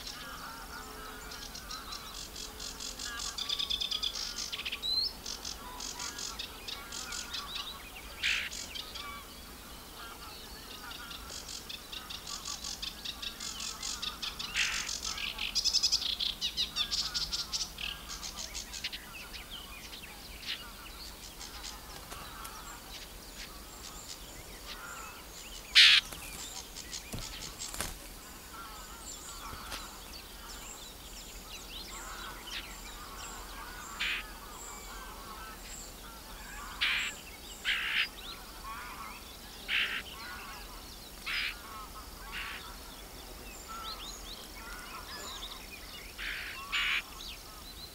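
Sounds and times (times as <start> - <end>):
birds chattering song: 0.0 - 47.9
sharp bird calls: 0.0 - 47.9.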